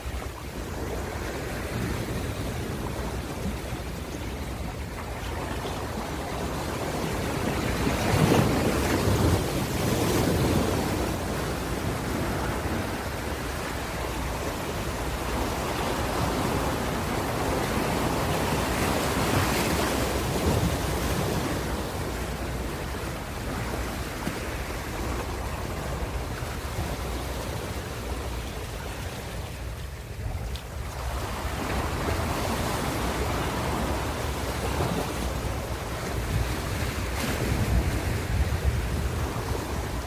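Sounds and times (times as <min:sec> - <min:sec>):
ocean waves breaking on shore: 0:00.0 - 0:40.0.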